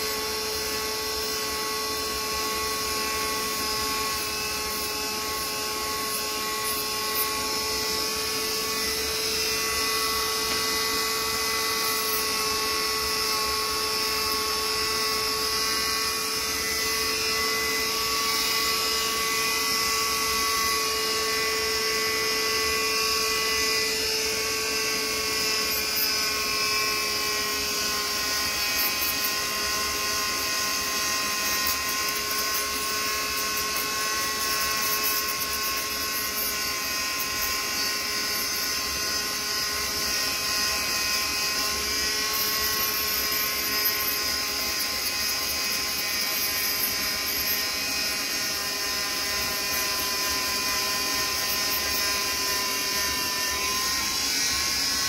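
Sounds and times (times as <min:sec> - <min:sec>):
power tool motor whining: 0:00.0 - 0:55.0.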